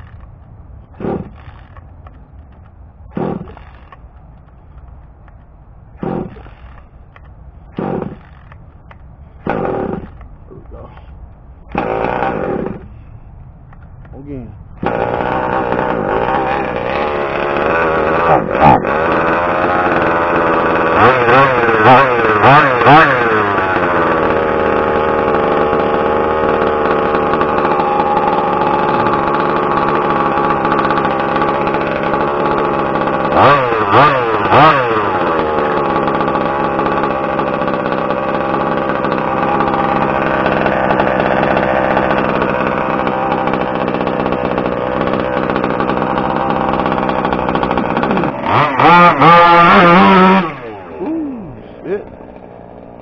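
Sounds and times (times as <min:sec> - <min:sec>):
small two-stroke engine idling: 0:00.0 - 0:04.0, 0:06.0 - 0:07.0, 0:07.7 - 0:10.2, 0:10.8 - 0:13.0, 0:14.8 - 0:53.0
engine throttle blips: 0:00.0 - 0:53.0.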